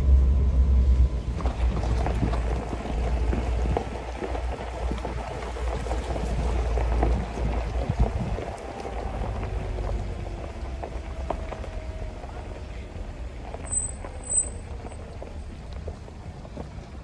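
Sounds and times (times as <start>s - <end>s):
low engine rumble: 0.0s - 17.0s
tyres rolling over gravel: 1.2s - 17.0s.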